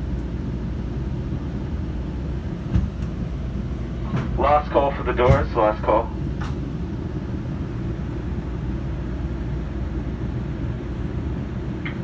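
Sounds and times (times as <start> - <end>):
stationary train rumble: 0.0 - 12.0.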